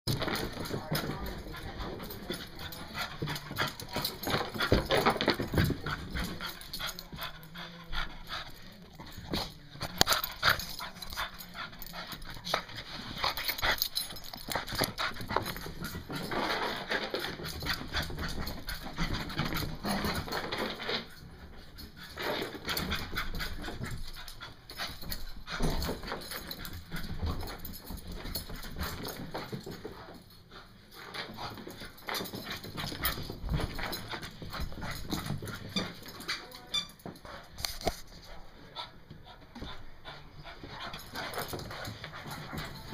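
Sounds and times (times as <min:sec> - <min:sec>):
paws knocking and scuffling: 0:00.1 - 0:42.9.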